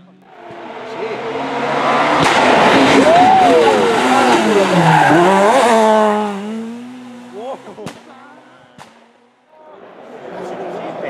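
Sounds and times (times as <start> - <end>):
rally car engine revving past: 0.3 - 9.3.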